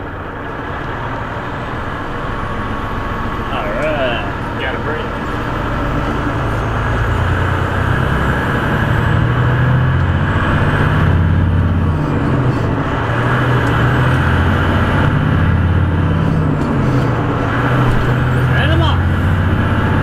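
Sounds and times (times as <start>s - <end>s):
road and tyre noise: 0.0s - 20.0s
truck diesel engine running: 0.0s - 20.0s.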